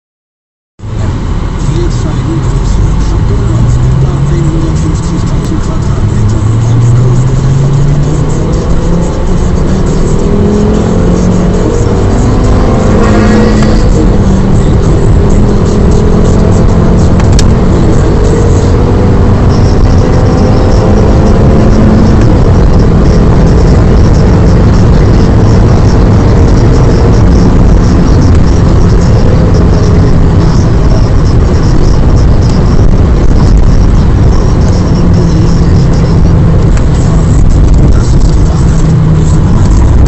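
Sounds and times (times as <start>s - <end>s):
car engine at speed: 0.8s - 40.0s
road and wind noise: 0.8s - 40.0s.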